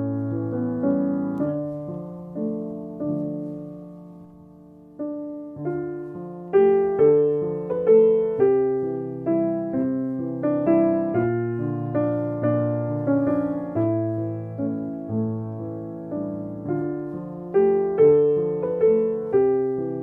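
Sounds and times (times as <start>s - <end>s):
slow solo piano music: 0.0s - 20.0s.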